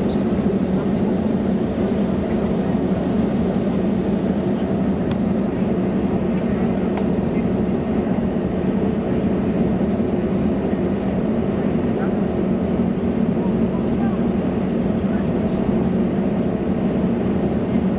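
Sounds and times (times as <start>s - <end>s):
airplane cabin hum: 0.0s - 17.9s.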